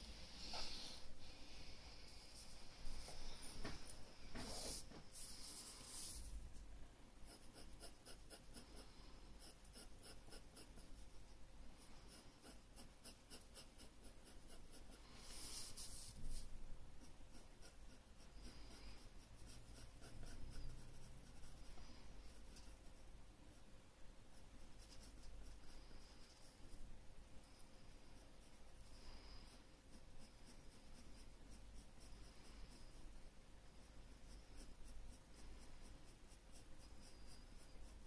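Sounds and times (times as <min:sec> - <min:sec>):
pencil scratching on paper: 0:04.4 - 0:06.4, 0:07.2 - 0:26.8, 0:27.4 - 0:38.0.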